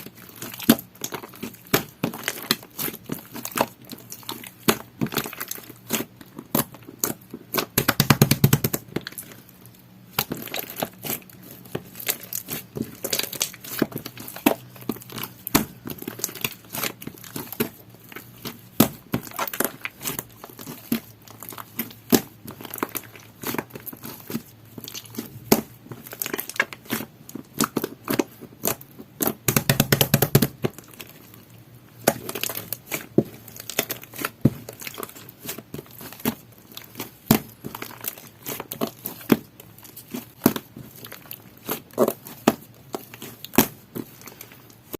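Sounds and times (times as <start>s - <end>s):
slime squishing by hand: 0.0s - 44.9s.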